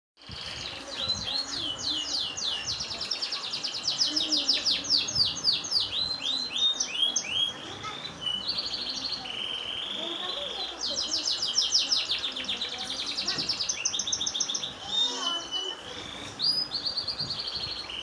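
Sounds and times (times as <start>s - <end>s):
canary singing: 0.2s - 18.0s.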